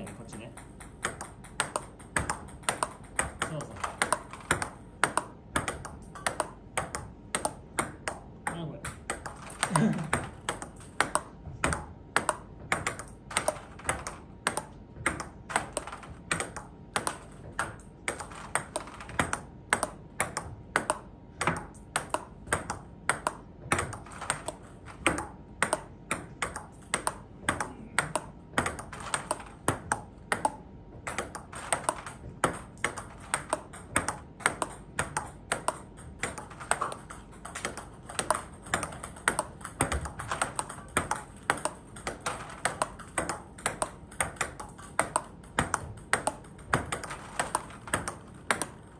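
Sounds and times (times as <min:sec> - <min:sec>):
ball bouncing on table: 0:00.0 - 0:48.9
table tennis ball hitting bats: 0:00.0 - 0:48.9.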